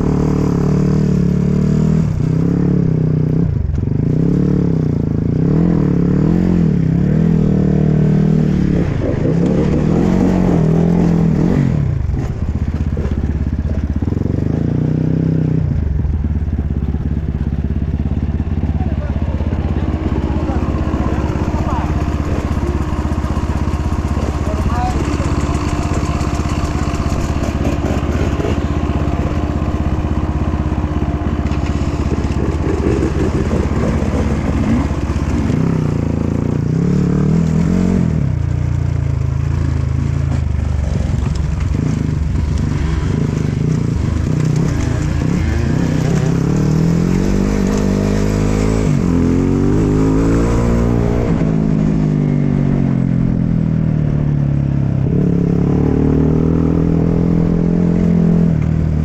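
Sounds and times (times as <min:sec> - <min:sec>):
dirt bike engine revving: 0:00.0 - 0:15.8, 0:16.9 - 0:38.5, 0:39.4 - 0:59.0.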